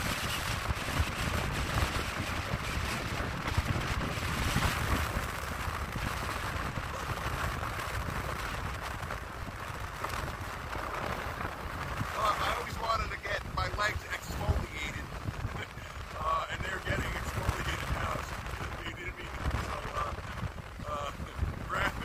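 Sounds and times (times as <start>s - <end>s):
ocean surf rushing: 0.0s - 22.0s
wind buffeting the microphone: 0.0s - 22.0s.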